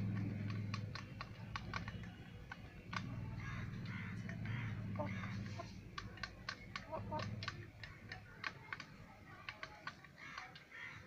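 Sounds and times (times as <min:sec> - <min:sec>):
chickens pecking from metal bowl: 0:00.0 - 0:11.0.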